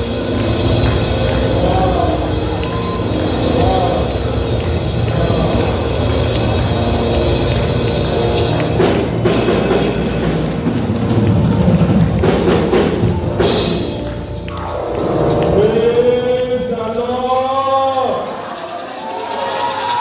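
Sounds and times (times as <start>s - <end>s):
church praise music: 0.0s - 20.0s
drum kit and percussion: 0.0s - 20.0s.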